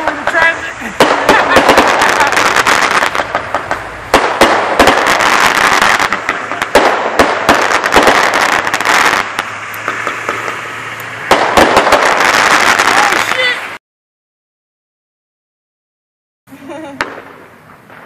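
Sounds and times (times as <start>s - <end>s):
fireworks crackling and banging: 0.0s - 13.8s, 16.6s - 18.0s.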